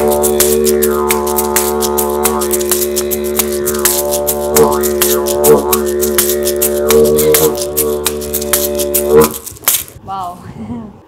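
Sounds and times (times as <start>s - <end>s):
didgeridoo drone: 0.0s - 10.0s.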